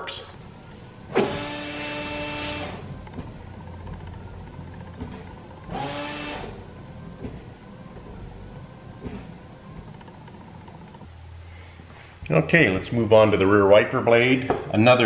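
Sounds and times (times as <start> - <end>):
washer pump whining: 0.0 - 14.9.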